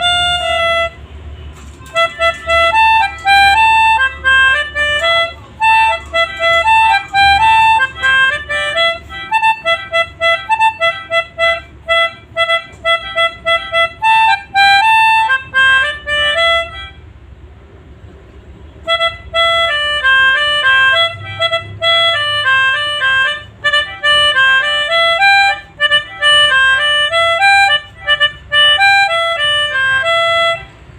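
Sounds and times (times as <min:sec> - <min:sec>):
melodica playing short reedy notes: 0:00.0 - 0:17.1, 0:18.8 - 0:30.9.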